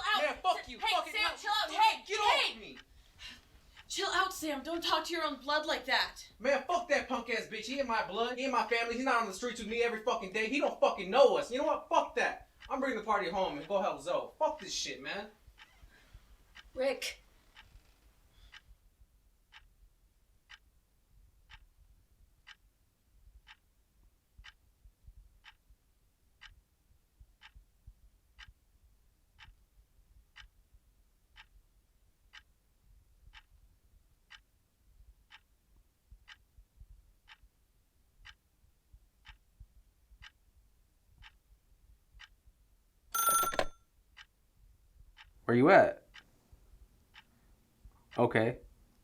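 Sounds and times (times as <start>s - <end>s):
faint clock ticking: 0.0s - 49.0s.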